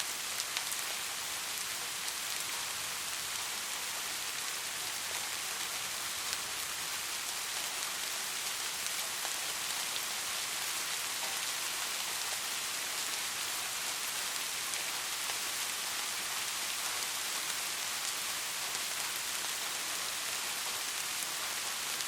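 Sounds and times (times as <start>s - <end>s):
rain on hard surfaces: 0.0s - 22.0s.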